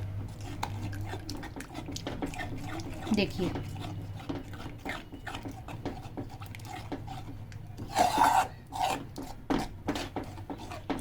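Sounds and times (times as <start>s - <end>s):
spoon scraping a pan: 0.2s - 11.0s.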